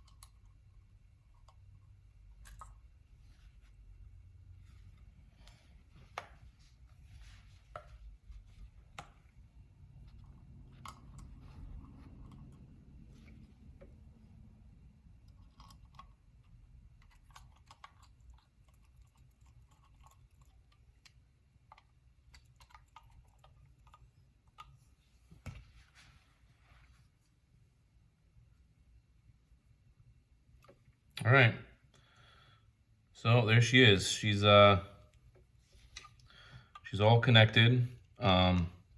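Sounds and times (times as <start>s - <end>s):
low room hum: 0.0s - 38.9s.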